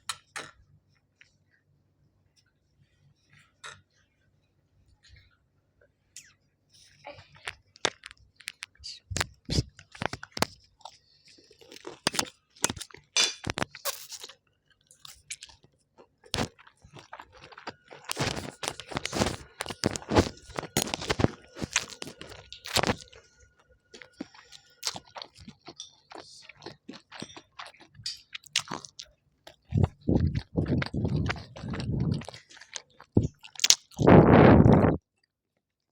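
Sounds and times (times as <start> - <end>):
chewing crispy food: 6.2 - 35.4.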